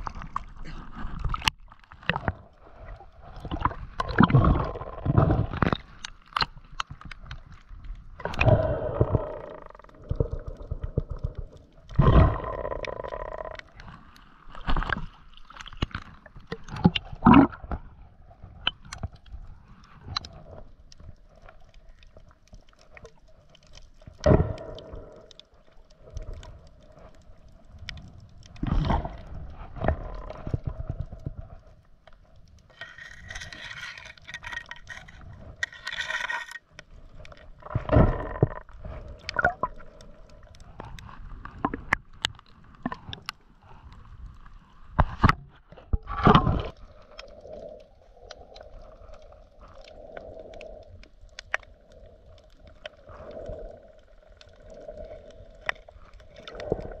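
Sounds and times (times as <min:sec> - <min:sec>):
water sloshing and gurgling: 0:00.0 - 0:57.0.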